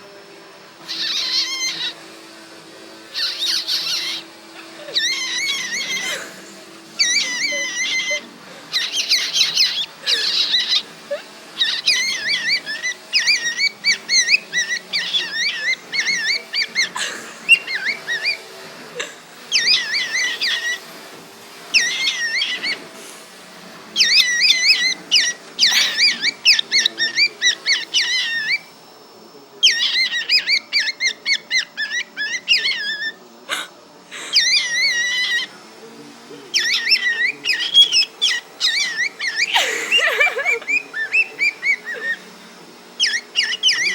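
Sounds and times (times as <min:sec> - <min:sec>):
cockatiel warbling and chattering: 0:00.8 - 0:02.2, 0:03.1 - 0:21.0, 0:21.7 - 0:23.0, 0:23.9 - 0:28.8, 0:29.6 - 0:35.7, 0:36.4 - 0:43.9.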